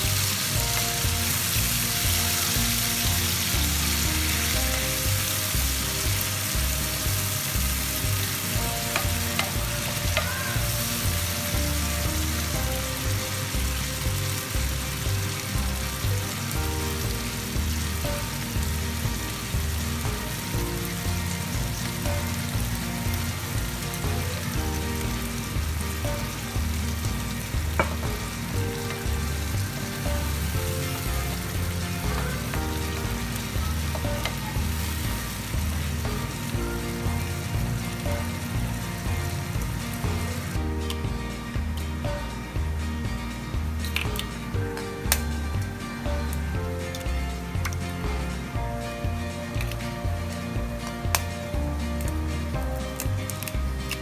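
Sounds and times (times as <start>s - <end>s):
soft background music with beat: 0.0s - 54.0s
vegetables sizzling in hot oil: 0.0s - 54.0s.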